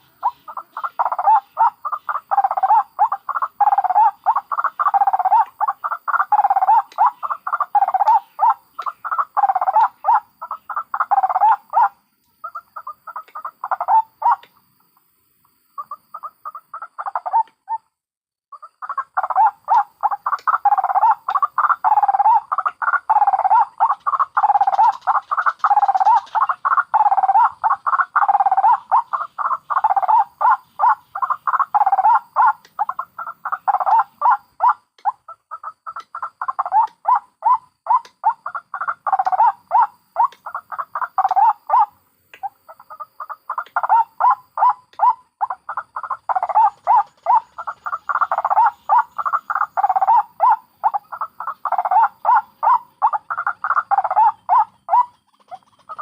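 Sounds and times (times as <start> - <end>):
waterhens cackling: 0.0 - 14.6, 15.7 - 17.8, 18.5 - 56.0.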